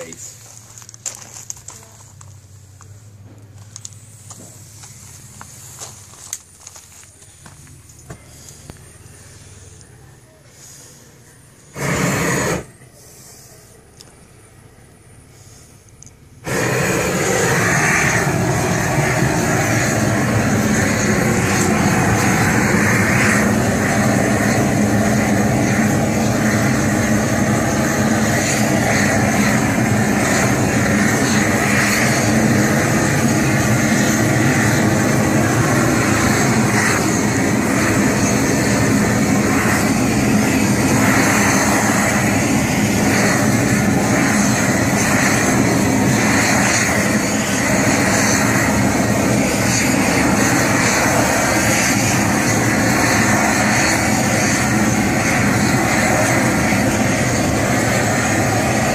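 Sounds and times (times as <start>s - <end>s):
gas torch burning: 0.0s - 58.9s.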